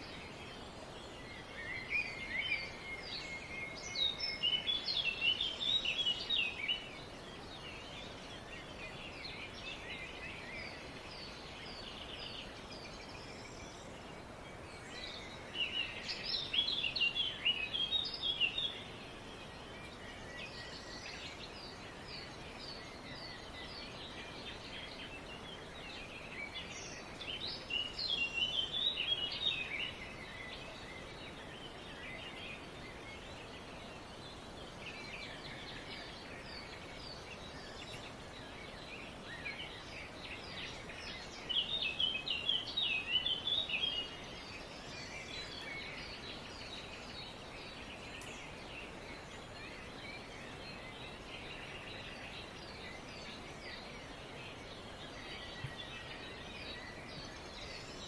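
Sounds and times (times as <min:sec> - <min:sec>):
wild birds chirping and singing: 0:00.0 - 0:58.0.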